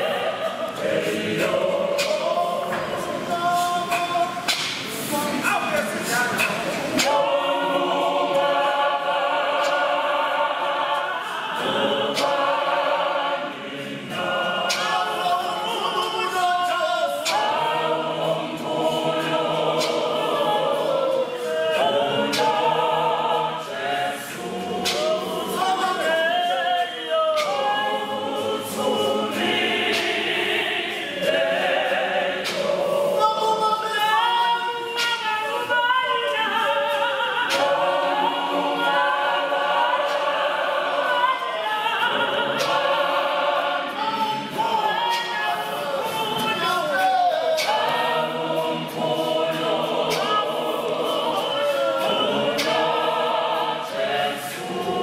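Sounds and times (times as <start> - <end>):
mixed choir singing a cappella: 0.0 - 55.0
sharp percussive beat: 0.0 - 55.0.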